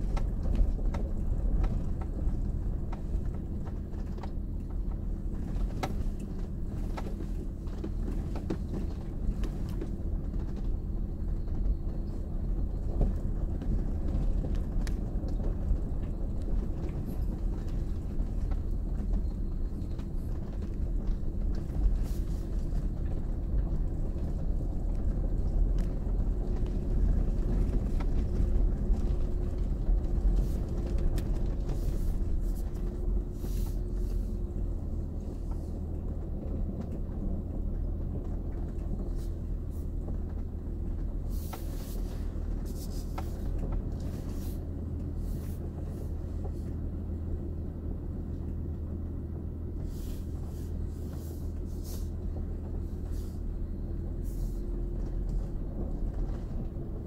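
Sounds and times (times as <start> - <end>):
engine and tyres rumbling: 0.0 - 57.0.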